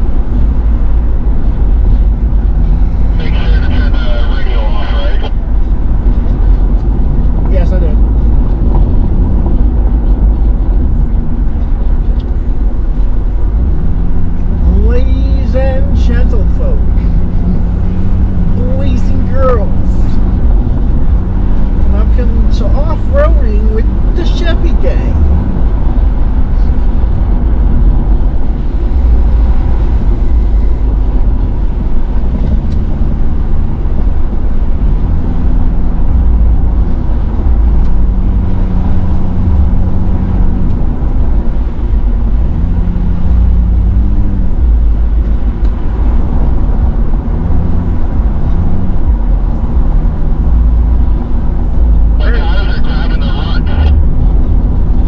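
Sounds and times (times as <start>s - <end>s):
truck engine and tyres rumbling: 0.0s - 55.0s.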